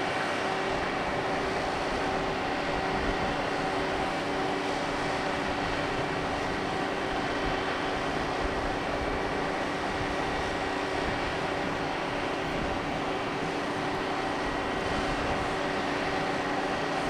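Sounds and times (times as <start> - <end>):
ship machinery drone: 0.0 - 17.0.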